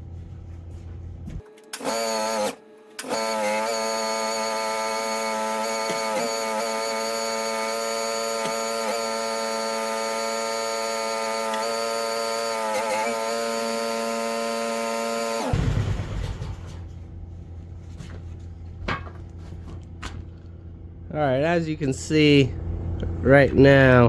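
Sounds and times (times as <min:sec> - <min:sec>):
mini loader engine whine: 0:01.3 - 0:17.8, 0:20.3 - 0:24.0.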